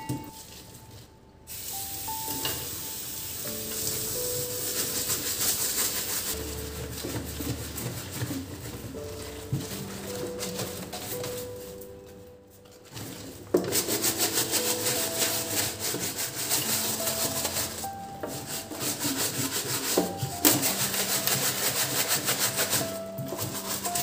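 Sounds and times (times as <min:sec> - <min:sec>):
brush scrubbing wet bag: 0:00.3 - 0:24.0.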